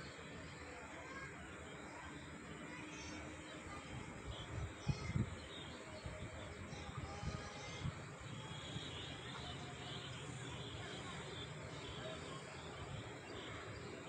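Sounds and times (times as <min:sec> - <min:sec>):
birds chirping: 0:01.7 - 0:14.0.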